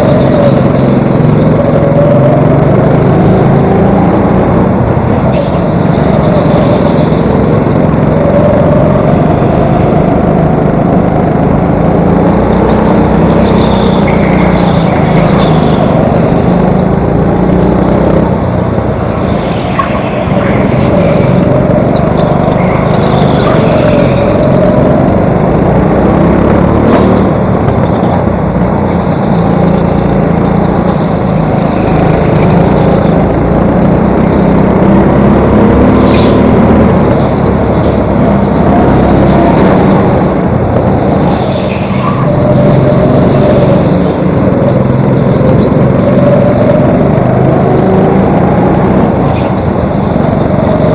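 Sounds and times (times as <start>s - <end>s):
go-kart engine revving: 0.0s - 50.9s
other karts' engines: 0.0s - 50.9s.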